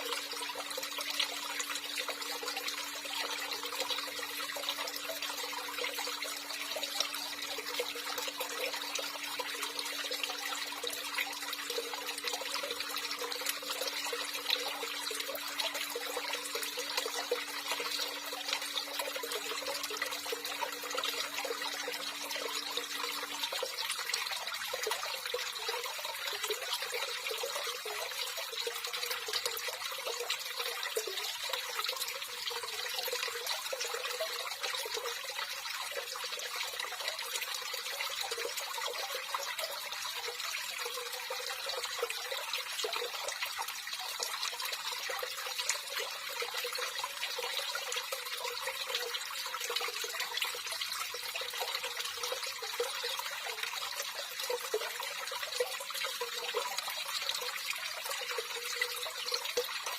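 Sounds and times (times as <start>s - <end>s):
water running: 0.0s - 59.9s.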